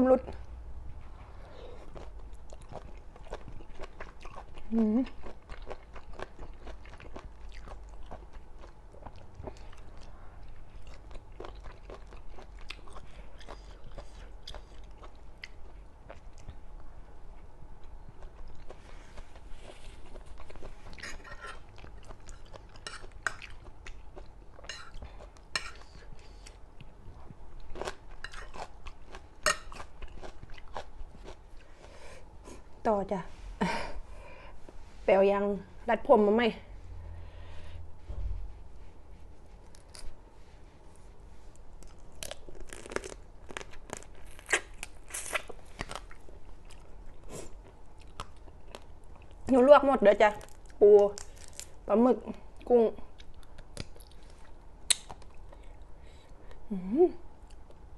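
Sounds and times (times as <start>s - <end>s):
crunching and chewing food: 0.4s - 32.8s, 39.2s - 49.6s, 50.2s - 56.7s, 57.3s - 57.9s.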